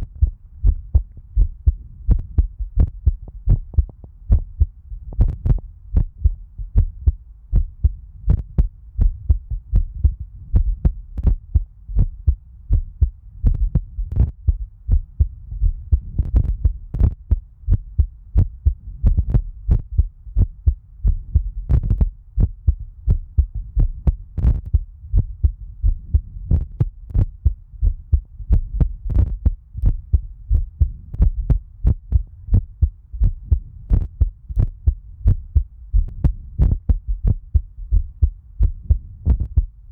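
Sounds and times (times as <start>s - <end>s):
heartbeat thuds: 0.0s - 39.9s
steady low hum: 0.0s - 39.9s.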